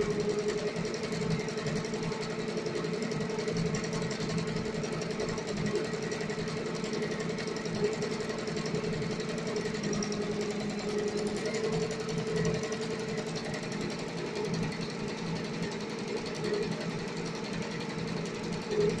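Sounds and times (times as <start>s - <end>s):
embroidery machine stitching: 0.0s - 19.0s.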